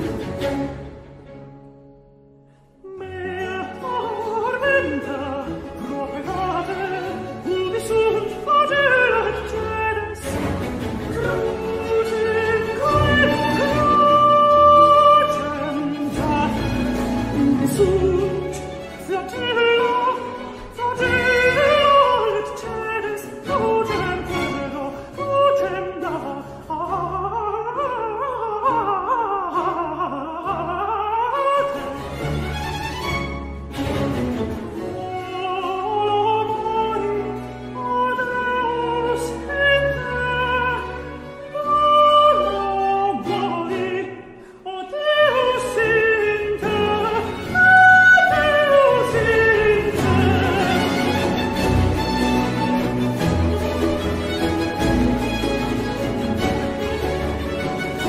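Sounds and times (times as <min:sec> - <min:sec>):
string orchestra: 0:00.0 - 0:58.0
countertenor singing: 0:02.8 - 0:33.2, 0:33.8 - 0:58.0.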